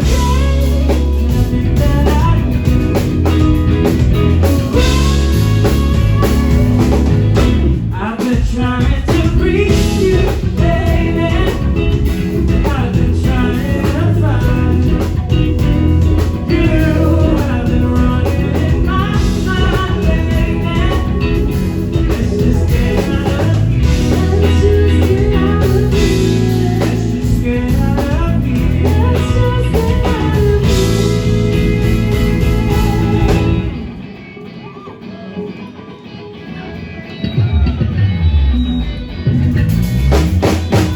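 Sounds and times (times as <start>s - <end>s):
bass and drums: 0.0s - 34.1s, 37.2s - 40.9s
person singing: 0.0s - 35.6s
electric guitar melody: 0.0s - 40.9s.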